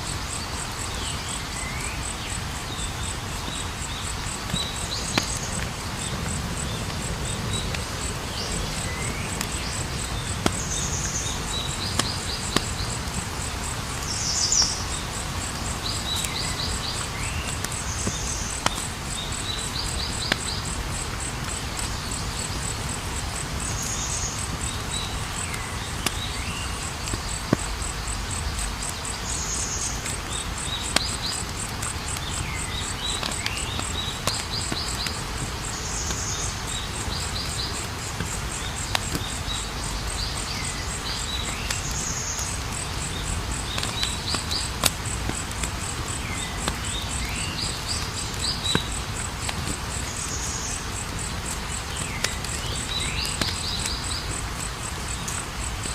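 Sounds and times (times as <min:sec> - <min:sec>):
campfire crackling: 0:00.0 - 0:55.9
crickets trilling: 0:00.0 - 0:55.9.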